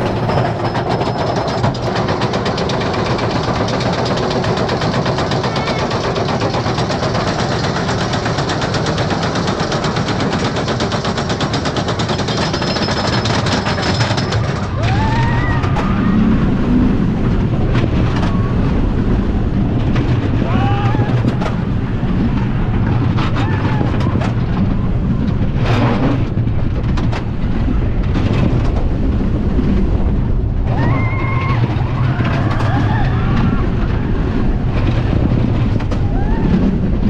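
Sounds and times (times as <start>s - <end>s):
roller coaster squeals: 0.0s - 26.4s, 29.8s - 37.0s
roller coaster train rattling: 0.0s - 37.0s.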